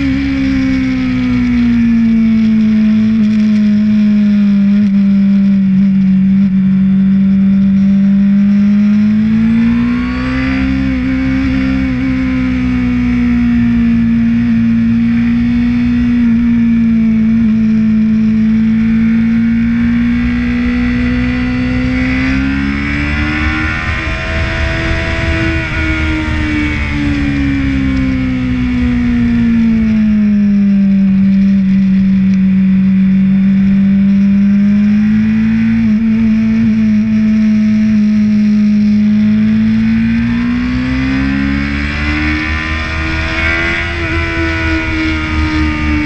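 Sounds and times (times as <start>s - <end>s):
motorcycle engine running: 0.0s - 46.0s
wind and road noise: 0.0s - 46.0s.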